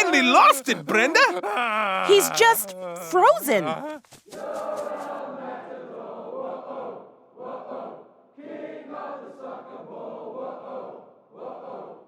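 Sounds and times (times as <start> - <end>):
muffled crowd chanting: 0.0 - 12.0.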